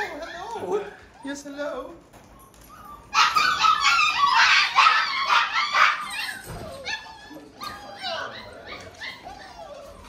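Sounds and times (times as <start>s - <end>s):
puppies yelping and whining: 0.0s - 10.0s.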